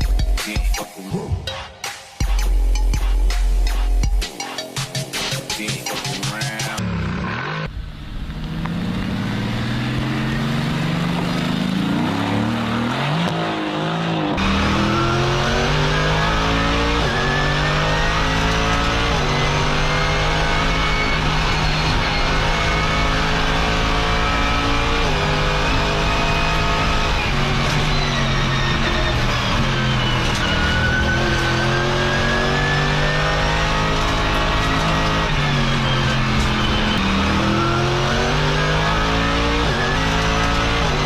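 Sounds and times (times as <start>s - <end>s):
race car engine accelerating: 6.1s - 41.0s.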